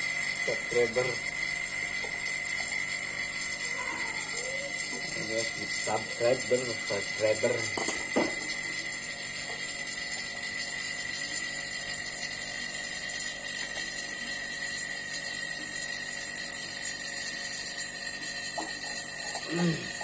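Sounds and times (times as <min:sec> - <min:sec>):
vacuum pump high-pitched whine: 0:00.0 - 0:20.0.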